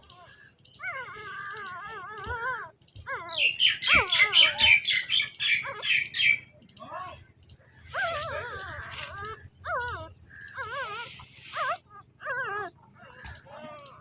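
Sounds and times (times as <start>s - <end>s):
puppies squeaking: 0.0s - 14.0s
puppies whining: 0.0s - 14.0s.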